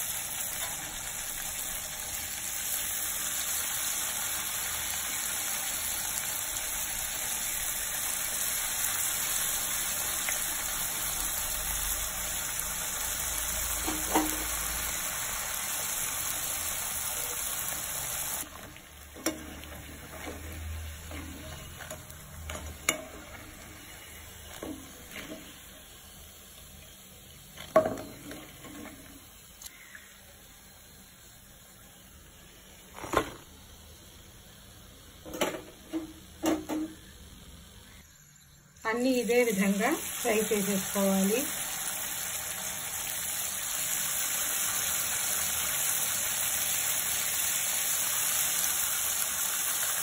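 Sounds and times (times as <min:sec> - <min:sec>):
discs deep-frying in hot oil: 0:00.0 - 0:50.0.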